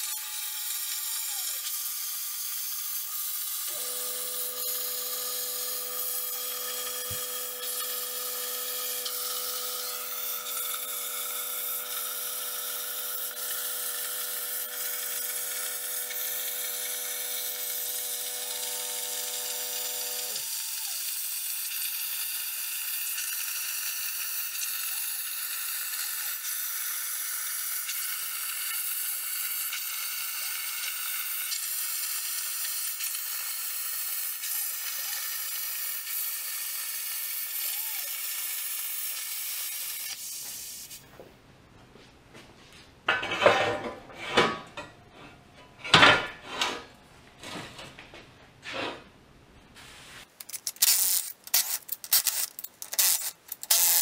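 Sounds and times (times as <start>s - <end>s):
plasma arc hissing: 0.0s - 41.0s, 50.5s - 54.0s.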